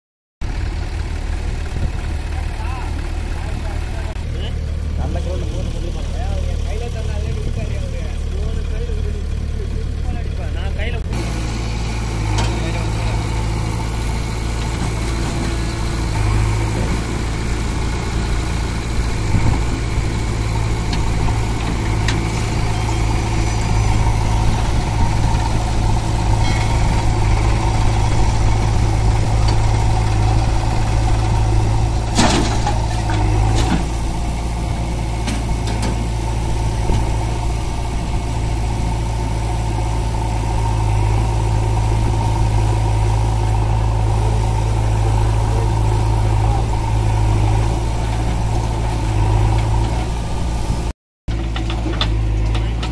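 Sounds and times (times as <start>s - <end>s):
diesel engine idling: 0.4s - 52.9s.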